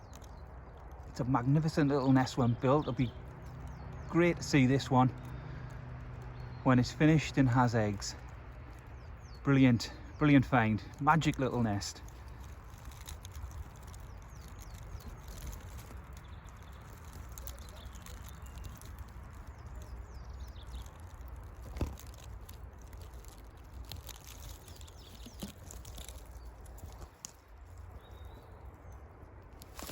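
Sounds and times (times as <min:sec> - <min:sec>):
distant birdsong: 0:00.0 - 0:29.9
light rustling and ticks: 0:00.0 - 0:29.9.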